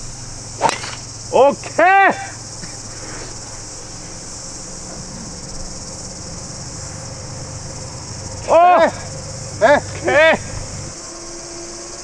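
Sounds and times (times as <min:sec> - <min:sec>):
insects chirping chorus: 0:00.0 - 0:12.0.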